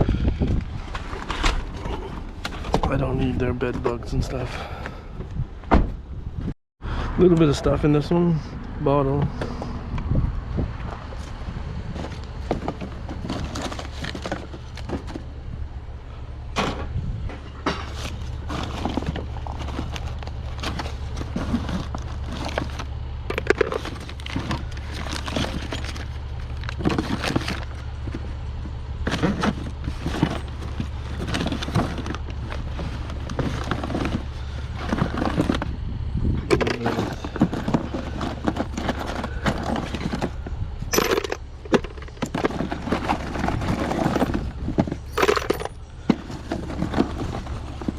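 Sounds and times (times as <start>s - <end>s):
clatter of junk being handled: 0.4s - 5.0s, 10.9s - 15.4s, 16.5s - 35.8s, 36.4s - 47.9s.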